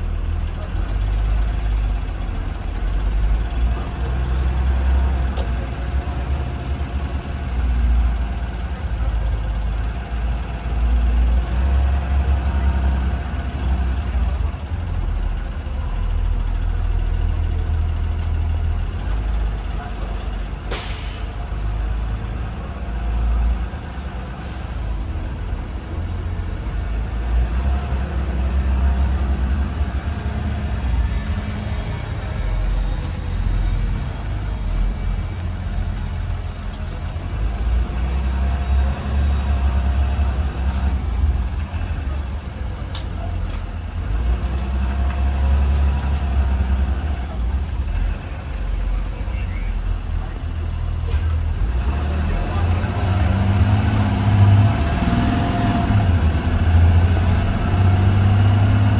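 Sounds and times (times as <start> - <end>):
bus engine and road rumble: 0.0 - 58.9.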